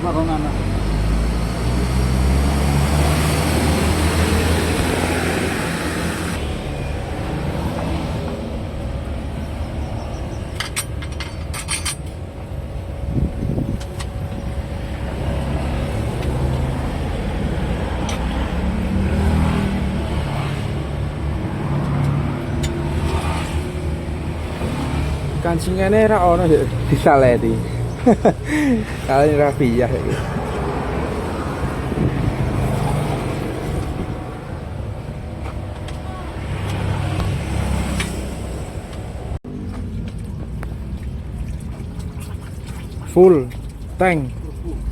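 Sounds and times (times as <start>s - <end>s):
vehicle engines rumbling: 0.0s - 44.9s.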